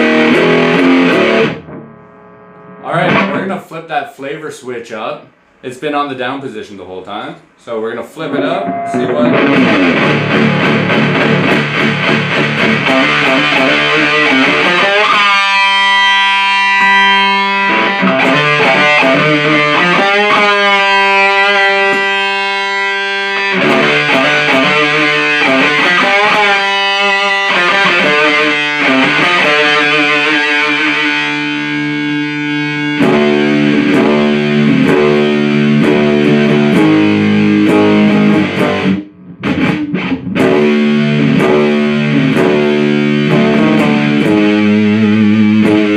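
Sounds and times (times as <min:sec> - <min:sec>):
distorted electric guitar riffing: 0:00.0 - 0:03.8, 0:05.2 - 0:45.9.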